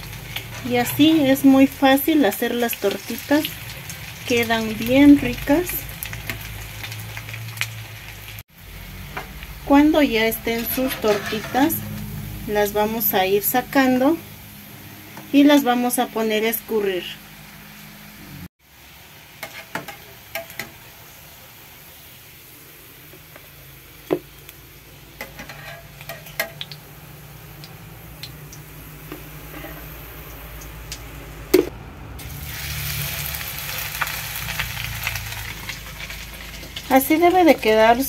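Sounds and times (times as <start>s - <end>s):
batter sizzling in hot oil: 0.0s - 38.0s.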